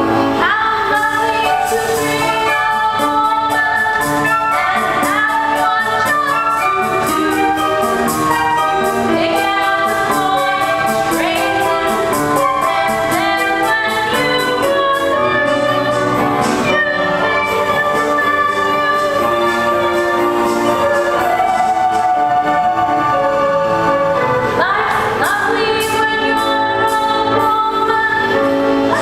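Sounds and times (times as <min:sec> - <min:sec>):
instrumental accompaniment with beat: 0:00.0 - 0:29.0
woman singing: 0:00.3 - 0:23.0, 0:24.6 - 0:29.0.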